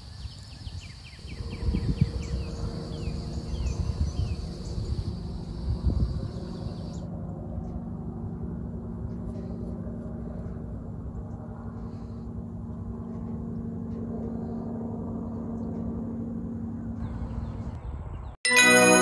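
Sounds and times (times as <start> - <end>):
low drone with held tones: 1.2 - 17.8.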